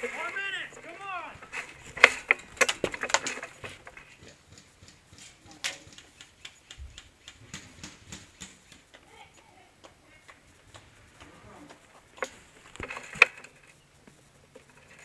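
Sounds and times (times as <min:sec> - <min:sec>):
faint clicks and taps: 0:00.0 - 0:15.0.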